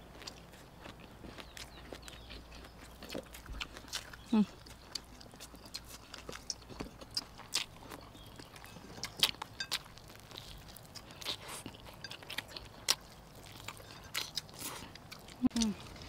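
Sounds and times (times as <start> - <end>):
chewing fried chicken: 0.0 - 16.0.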